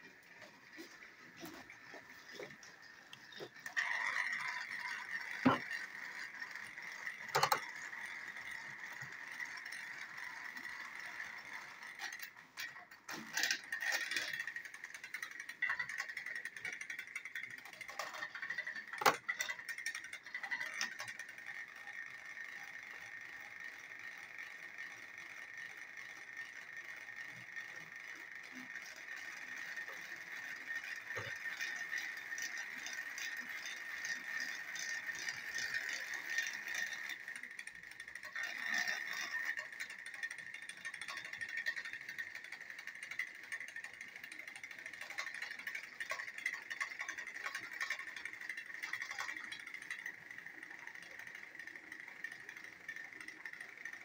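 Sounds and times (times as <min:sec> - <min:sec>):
plastic gears rattling: 0:00.0 - 0:54.0
toy train motors whining: 0:00.0 - 0:54.0.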